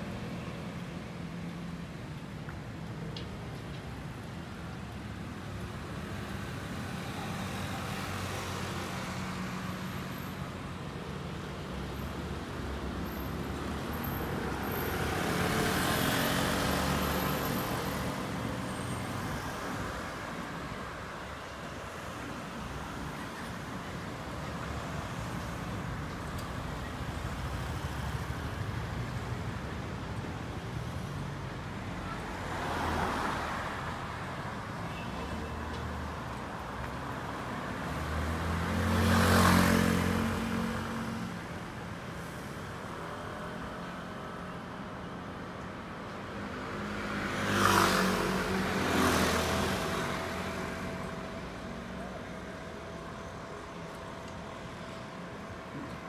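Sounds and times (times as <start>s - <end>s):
traffic hum: 0.0s - 56.0s
vehicles passing close: 0.0s - 56.0s.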